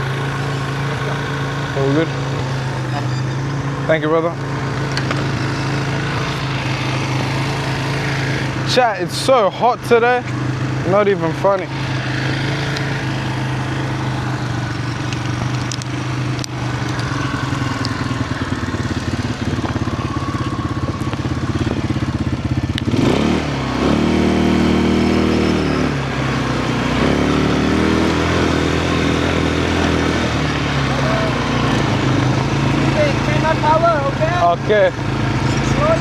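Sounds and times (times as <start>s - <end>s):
quad bike engine idling and revving: 0.0s - 36.0s.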